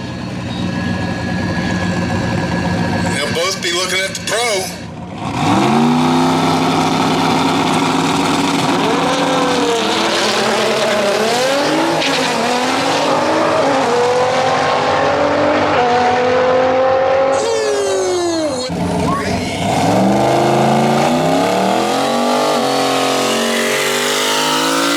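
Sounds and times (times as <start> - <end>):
drag cars at full throttle: 0.0 - 24.9.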